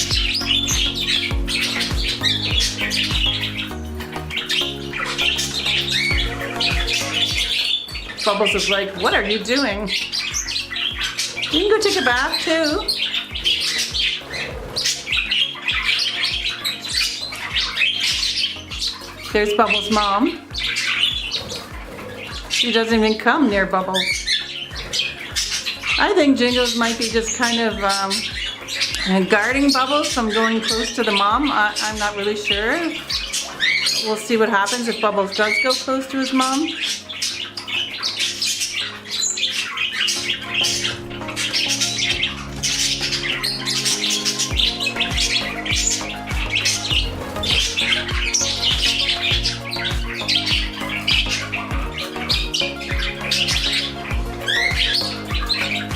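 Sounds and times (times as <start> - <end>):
background music with a beat: 0.0 - 33.9, 36.9 - 55.9
small parrots chattering and squawking: 0.0 - 55.9.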